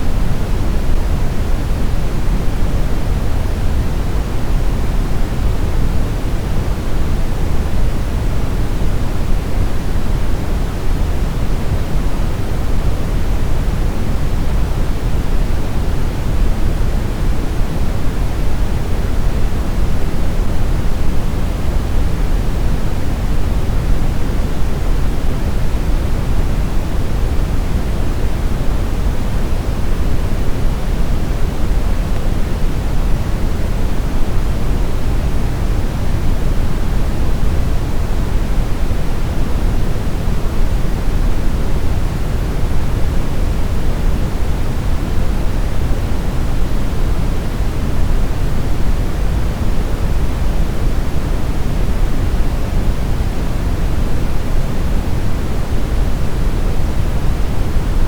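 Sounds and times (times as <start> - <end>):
brown noise rumbling hiss: 0.0 - 58.0.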